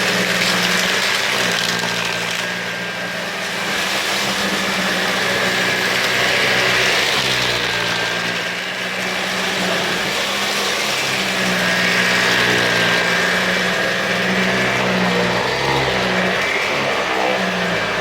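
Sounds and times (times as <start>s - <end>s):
vacuum cleaner on carpet: 0.0s - 18.0s.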